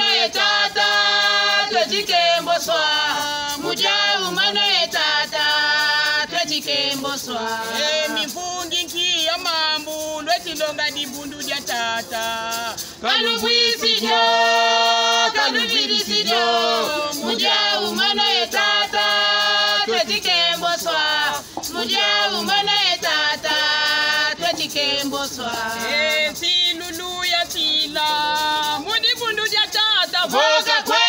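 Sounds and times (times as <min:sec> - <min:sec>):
group singing unaccompanied: 0:00.0 - 0:31.0.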